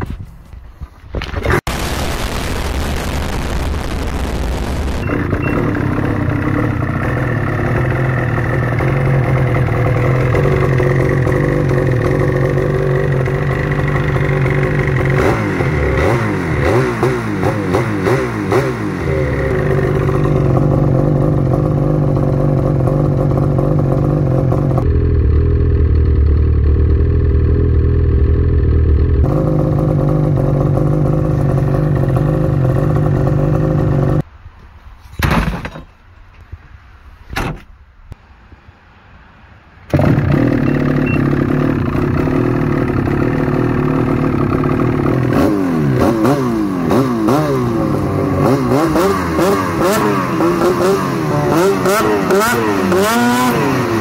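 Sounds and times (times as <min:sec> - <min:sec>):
snowmobile engine revving: 0:01.7 - 0:34.2, 0:39.9 - 0:54.0.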